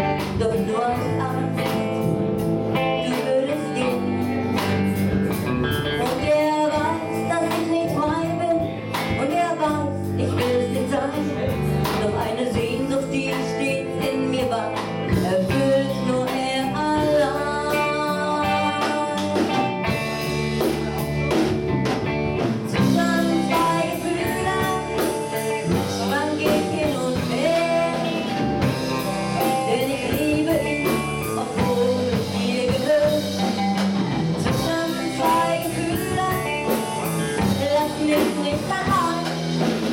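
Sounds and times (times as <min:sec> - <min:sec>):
woman singing: 0:00.0 - 0:20.3, 0:22.6 - 0:39.8
drum kit: 0:00.0 - 0:39.9
electric guitars: 0:00.0 - 0:39.9.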